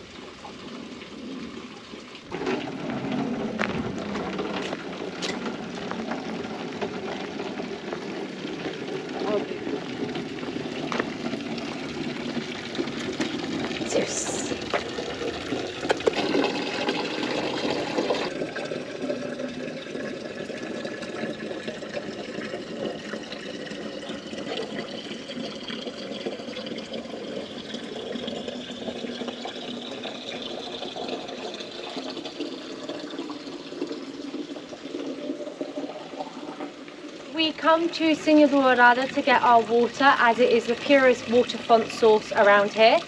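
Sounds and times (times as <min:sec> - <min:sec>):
fountain water splashing: 0:00.0 - 0:43.0.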